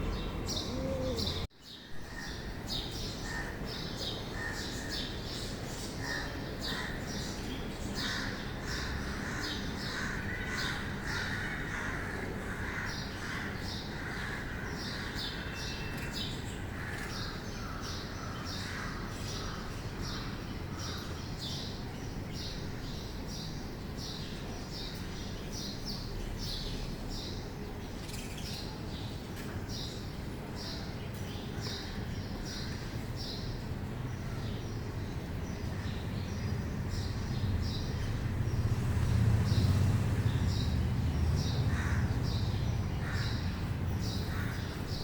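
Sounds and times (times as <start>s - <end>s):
lower chorus of bird calls: 0.0s - 45.0s.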